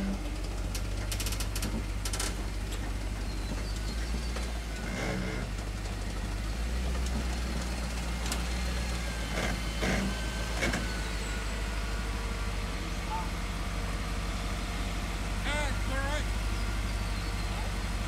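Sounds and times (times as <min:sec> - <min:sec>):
engine running low: 0:00.0 - 0:18.0.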